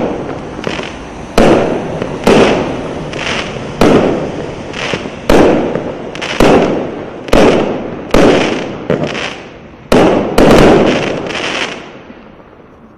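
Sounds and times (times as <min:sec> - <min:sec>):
firework cake bangs: 0:00.0 - 0:11.7.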